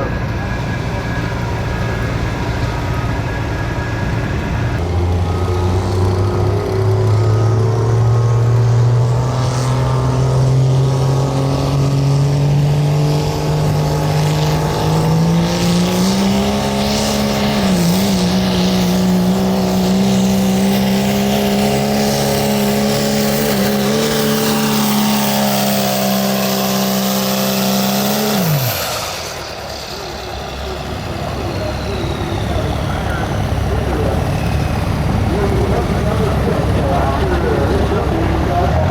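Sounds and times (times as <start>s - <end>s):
diesel pickup engine at full throttle: 0.0s - 38.9s.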